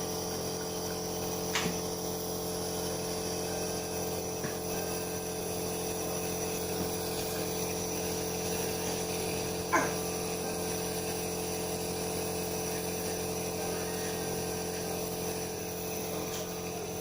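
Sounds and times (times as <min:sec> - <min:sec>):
nebulizer motor hum: 0:00.0 - 0:17.0.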